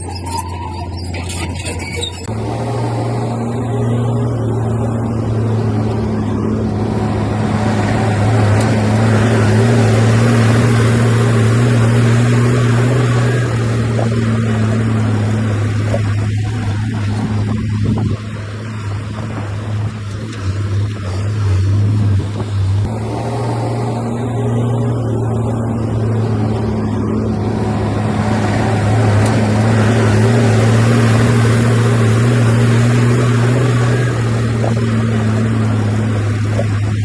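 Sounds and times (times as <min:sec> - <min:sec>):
heavy machinery diesel engine: 0:00.0 - 0:37.0.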